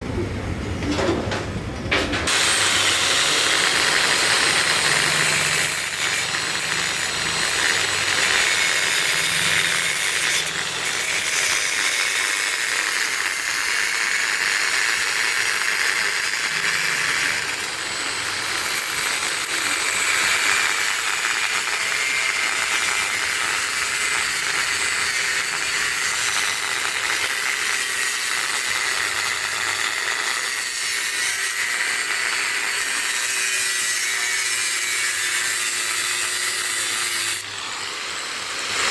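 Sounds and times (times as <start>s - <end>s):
power tool running: 1.9s - 38.9s.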